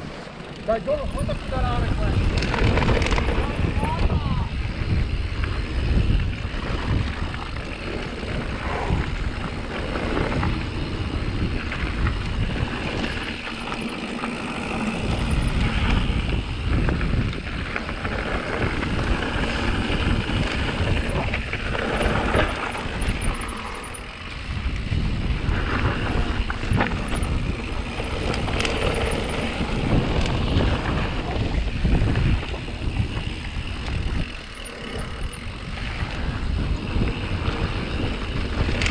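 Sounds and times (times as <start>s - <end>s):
bike tyres rolling over gravel: 0.0s - 38.9s
wind buffeting microphone: 0.0s - 38.9s.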